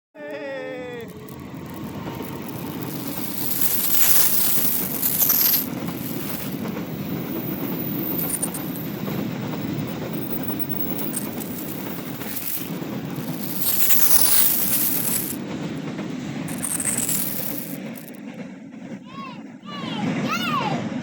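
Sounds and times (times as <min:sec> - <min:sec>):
train wheels rumbling on rails: 0:00.7 - 0:21.0.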